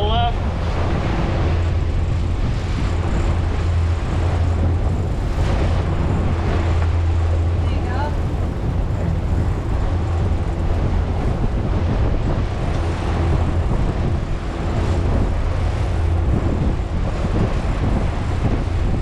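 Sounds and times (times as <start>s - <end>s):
outboard motors running: 0.0s - 19.0s
water rushing past hull: 0.0s - 19.0s
wind buffeting microphone: 0.0s - 19.0s.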